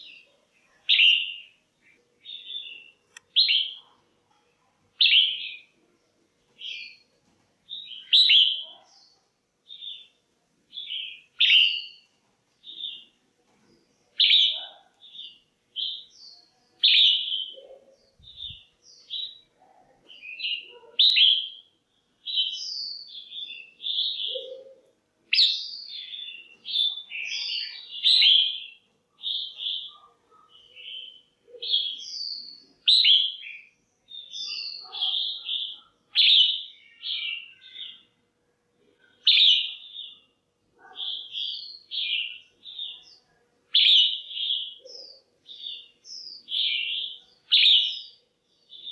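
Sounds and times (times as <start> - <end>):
bird chirping: 0.0 - 4.1, 5.0 - 7.1, 7.7 - 38.2, 39.0 - 48.9.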